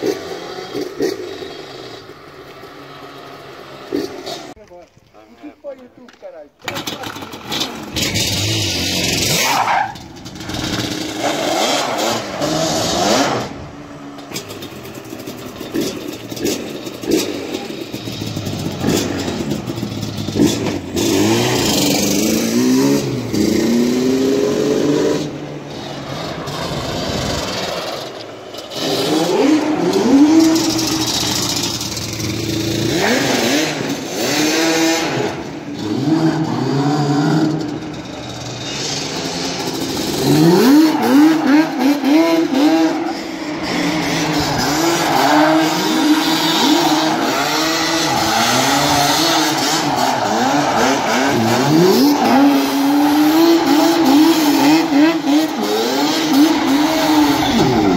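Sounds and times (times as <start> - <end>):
two-stroke engine revving: 0.0 - 4.6, 6.6 - 57.9.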